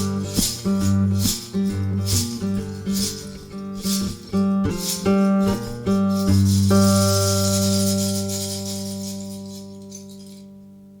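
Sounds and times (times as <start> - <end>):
shaker or tambourine beat: 0.0 - 10.6
blues guitar: 0.0 - 11.0.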